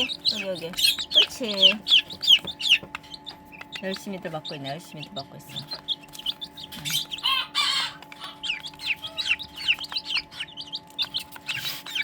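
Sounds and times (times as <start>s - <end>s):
brooder fan hum: 0.0s - 12.0s
chicks peeping: 0.0s - 12.0s.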